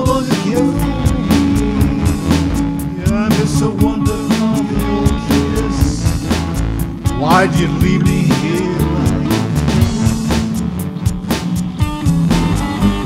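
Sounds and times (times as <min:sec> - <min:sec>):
bass guitar: 0:00.0 - 0:13.0
drum kit beat: 0:00.0 - 0:13.0
electric guitar: 0:00.0 - 0:13.0.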